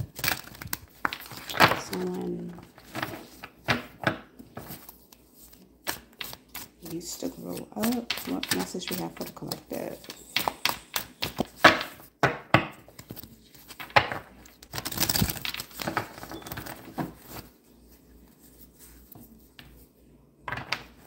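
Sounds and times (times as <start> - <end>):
cards being shuffled: 0.0 - 12.1, 12.7 - 17.7.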